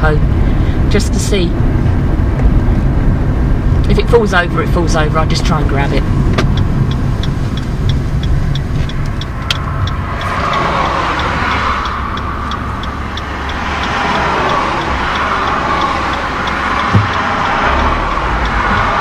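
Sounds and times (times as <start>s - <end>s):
car engine and tyre noise: 0.0s - 19.0s
turn signal ticking: 0.0s - 19.0s.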